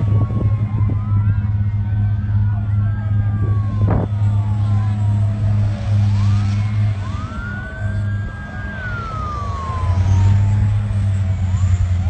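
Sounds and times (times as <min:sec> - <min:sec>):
siren wailing: 0:00.0 - 0:12.0
steady low rumble: 0:00.0 - 0:12.0.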